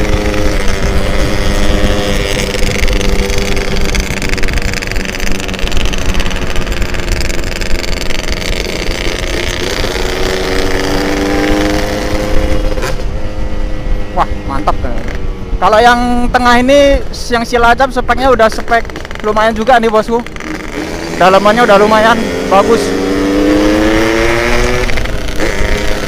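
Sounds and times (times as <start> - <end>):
two-stroke motorcycle engine: 0.0 - 15.3, 18.2 - 26.0
wind noise on microphone: 0.0 - 26.0.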